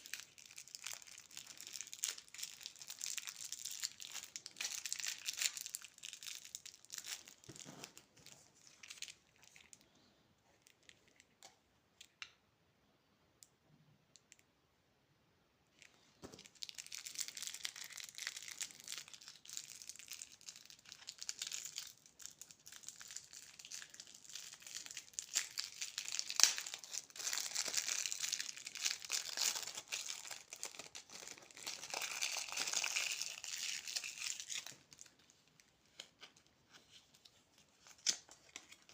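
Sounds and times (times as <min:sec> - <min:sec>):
plastic wrappers crinkling: 0:00.0 - 0:09.9, 0:15.8 - 0:38.9.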